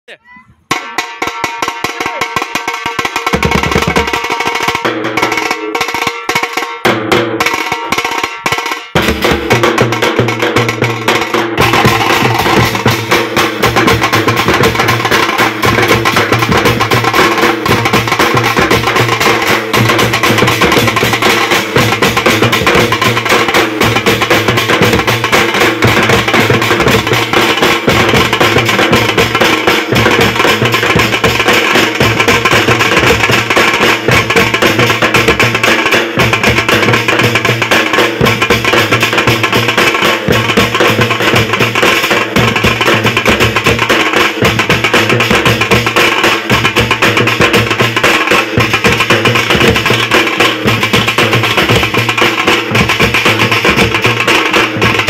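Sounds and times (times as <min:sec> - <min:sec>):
dhol drums drumming: 0:00.1 - 0:55.0.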